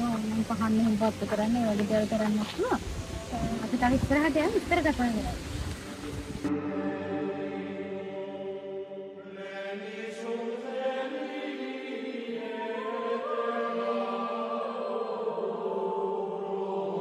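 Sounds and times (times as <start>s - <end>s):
chant-like vocal music: 0.0s - 17.0s.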